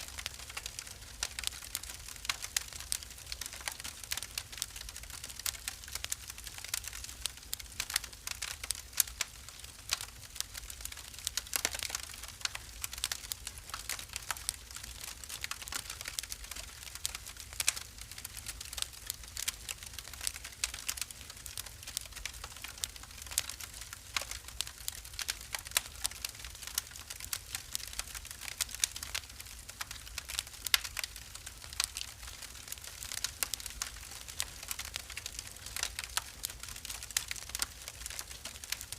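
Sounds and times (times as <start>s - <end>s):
fire pops and snaps: 0.0s - 38.9s
soft steady hiss: 0.0s - 38.9s
wood fire crackling: 0.0s - 38.9s.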